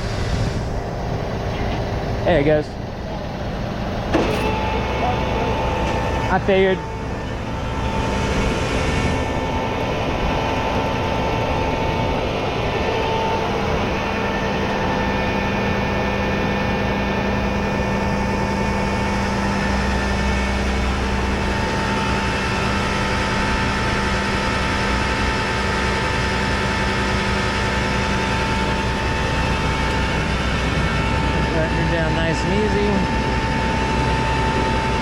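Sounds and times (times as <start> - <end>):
tow truck engine hum: 0.0 - 35.0
hydraulic winch whining: 3.4 - 35.0.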